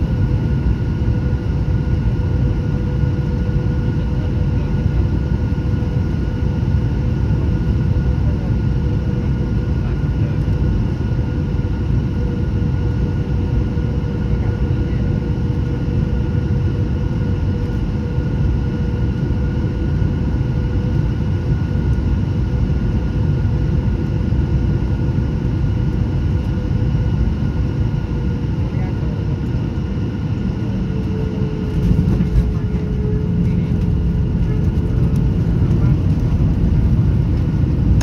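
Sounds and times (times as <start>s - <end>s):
airplane cabin airflow and engine: 0.0s - 38.0s.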